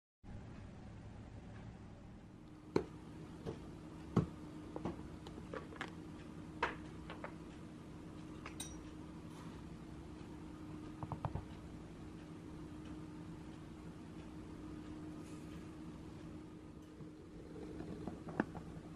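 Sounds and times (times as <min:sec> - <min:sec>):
faint steady hum: 0:00.3 - 0:18.9.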